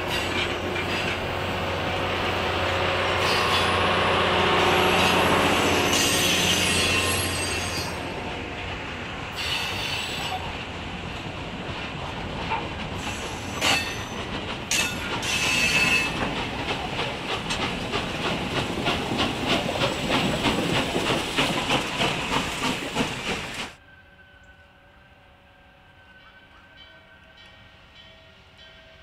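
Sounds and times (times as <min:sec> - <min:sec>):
steam train hissing: 0:00.0 - 0:23.8
train wheels clattering: 0:00.0 - 0:23.8.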